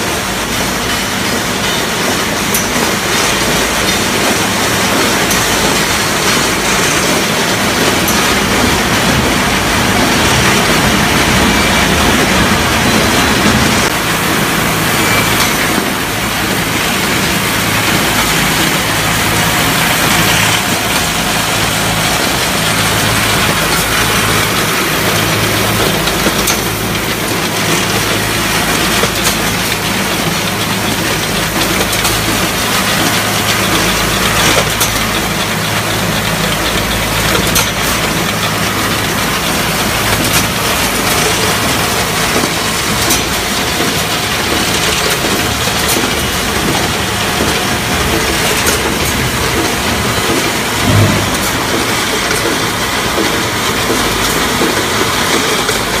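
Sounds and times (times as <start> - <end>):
machine motor hum and whir: 0.2 - 56.0.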